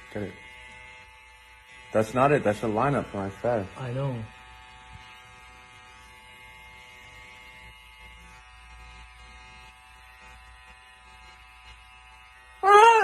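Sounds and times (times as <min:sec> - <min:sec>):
electric hair trimmer buzzing: 0:00.0 - 0:13.0.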